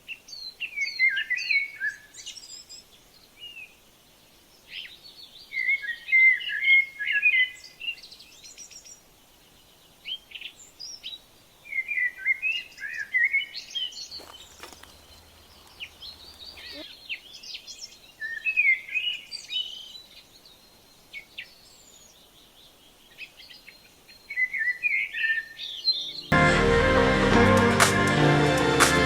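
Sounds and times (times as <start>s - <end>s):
songbird chirping: 0.0s - 26.4s.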